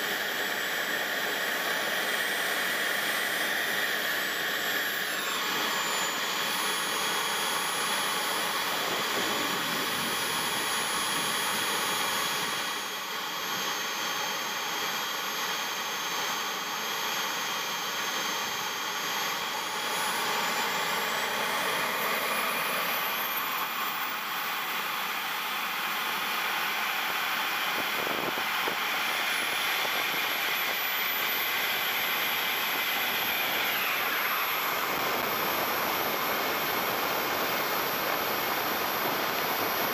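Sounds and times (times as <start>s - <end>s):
jet turbine whine: 0.0s - 39.9s
model jet takeoff roll: 0.0s - 39.9s.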